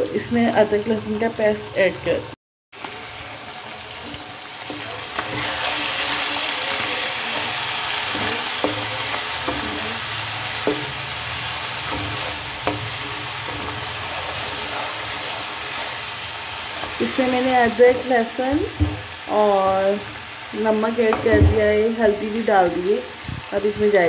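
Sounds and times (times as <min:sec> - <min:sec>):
meat sizzling in oil: 0:00.0 - 0:24.0.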